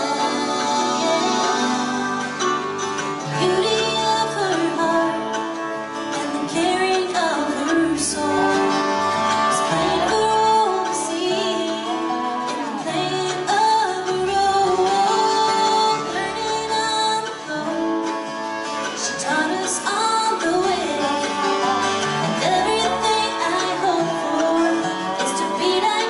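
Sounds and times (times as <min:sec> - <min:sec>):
acoustic folk band playing: 0:00.0 - 0:26.0
women singing: 0:00.0 - 0:26.0.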